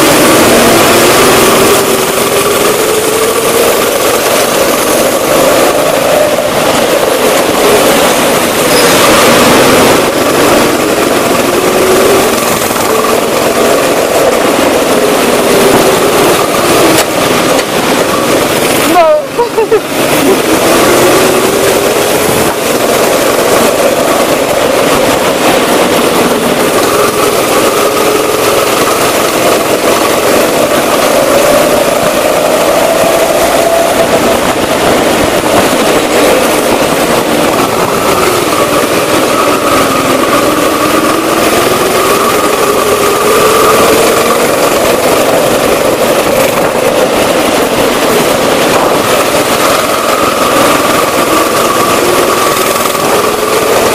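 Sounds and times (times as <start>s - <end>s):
go-kart engine: 0.0s - 53.9s.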